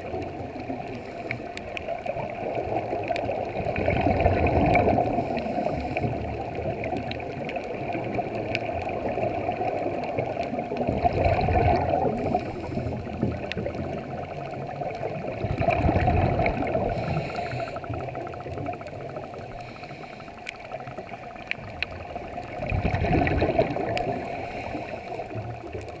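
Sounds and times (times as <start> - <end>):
faint clicks: 0.0 - 26.0
low underwater rumble: 0.0 - 26.0
underwater bubbles gurgling: 0.0 - 26.0.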